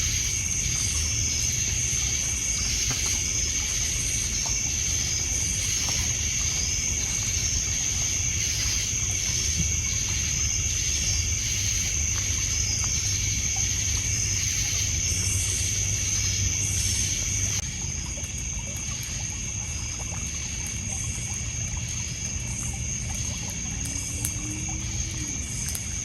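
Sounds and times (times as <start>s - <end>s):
campfire crackles: 0.0s - 26.0s
high cricket trill: 0.0s - 26.0s
slower insect chirp: 0.0s - 26.0s
water washing on pebbles: 0.0s - 26.0s.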